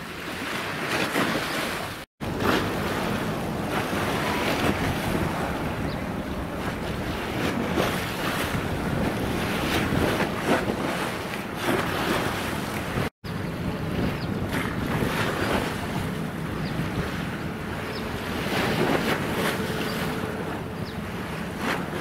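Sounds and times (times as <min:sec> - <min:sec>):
sea water washing: 0:00.0 - 0:22.0
wind buffeting microphone: 0:00.8 - 0:22.0.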